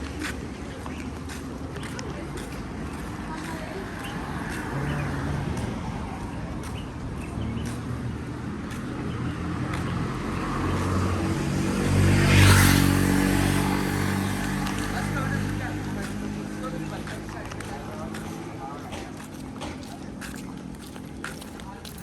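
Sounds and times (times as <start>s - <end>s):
vehicle engine passing: 0.0s - 21.8s
street traffic: 0.0s - 22.0s.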